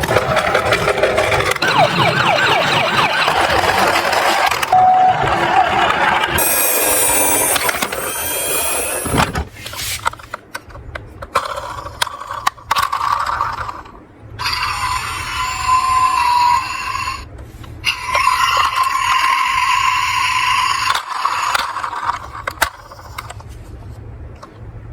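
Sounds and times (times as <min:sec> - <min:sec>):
toy vehicles clicking and knocking: 0:00.0 - 0:09.2, 0:10.0 - 0:17.2, 0:17.9 - 0:23.5
toy vehicles rolling down plastic slope: 0:00.0 - 0:09.3, 0:11.2 - 0:17.3, 0:17.9 - 0:23.6.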